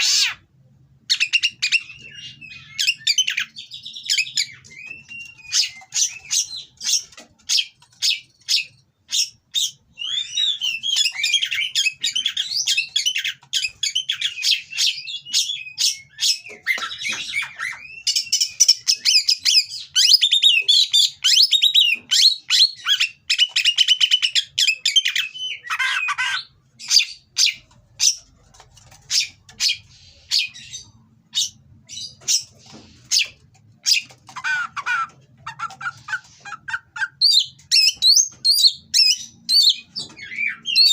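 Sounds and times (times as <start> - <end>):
bird singing harsh song: 1.1 - 28.3, 29.0 - 40.9.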